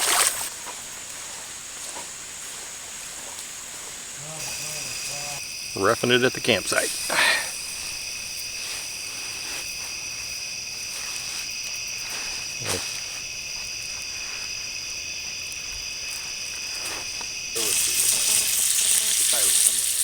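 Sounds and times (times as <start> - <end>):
crickets and night insects: 0.0 - 20.0.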